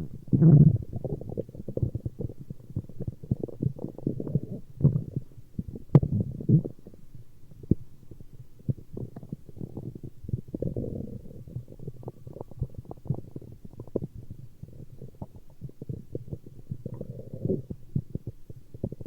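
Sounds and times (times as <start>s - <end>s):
stomach growling: 0.0s - 7.0s, 7.6s - 19.0s.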